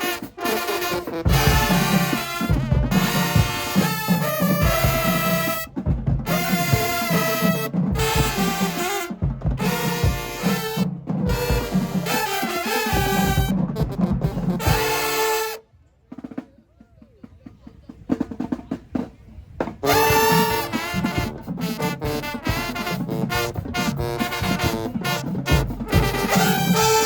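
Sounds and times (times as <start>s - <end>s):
drum strokes: 0.0s - 15.5s, 18.1s - 27.0s
marching band brass: 0.0s - 16.5s, 18.1s - 27.0s.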